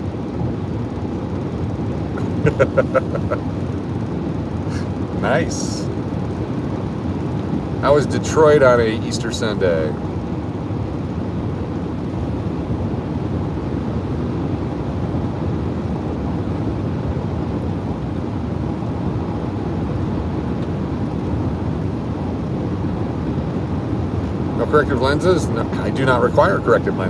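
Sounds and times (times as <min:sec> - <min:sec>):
road and wind noise in car: 0:00.0 - 0:27.0.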